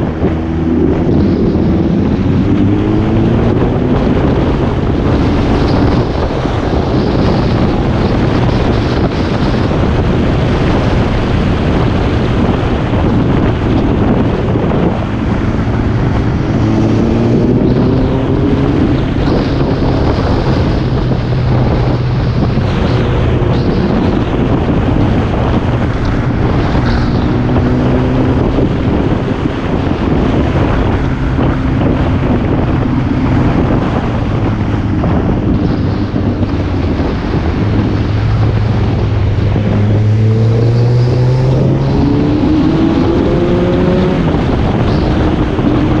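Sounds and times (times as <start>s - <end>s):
vehicle engine running: 0.0s - 46.0s
wind rushing over microphone: 0.0s - 46.0s.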